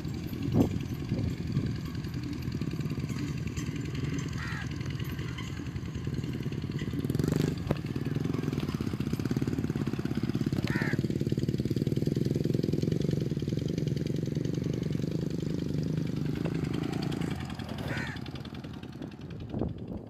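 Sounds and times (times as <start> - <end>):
engine running with pulsing hum: 0.0 - 20.0.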